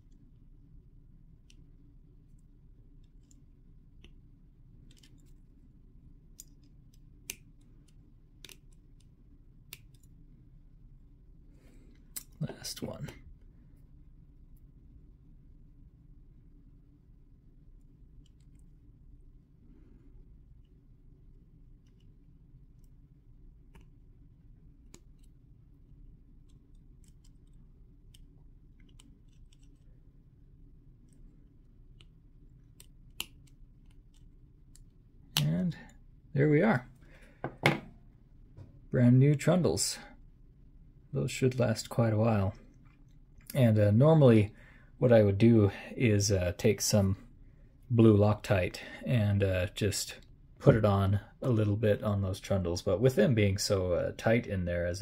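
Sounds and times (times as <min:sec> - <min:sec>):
faint room noise: 0:00.0 - 0:55.0
faint steady hum: 0:00.0 - 0:55.0.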